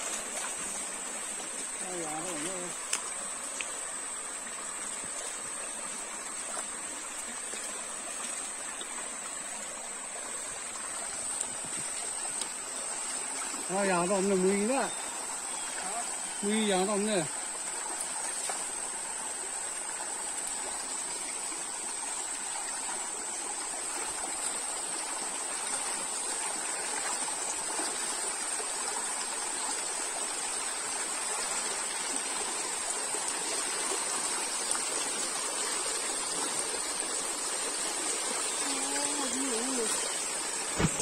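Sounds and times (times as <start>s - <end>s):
stream rushing over stones: 0.0s - 41.0s.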